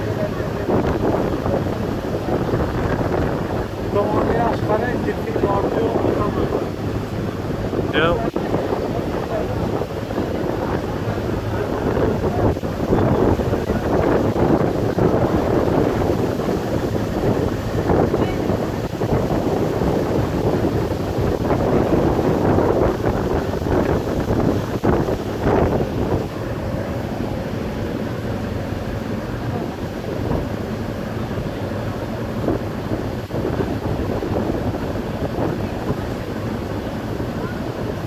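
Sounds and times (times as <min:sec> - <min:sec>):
boat engine humming: 0:00.0 - 0:38.0
water washing: 0:00.0 - 0:38.0
wind buffeting microphone: 0:00.0 - 0:38.0.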